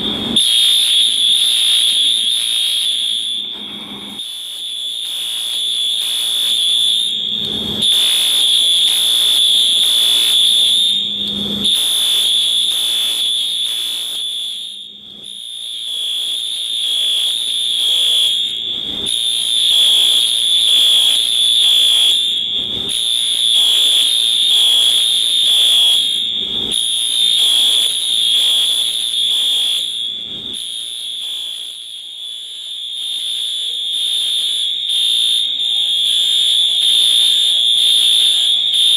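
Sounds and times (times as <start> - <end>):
fire alarm high-pitched tone: 0.0 - 38.9.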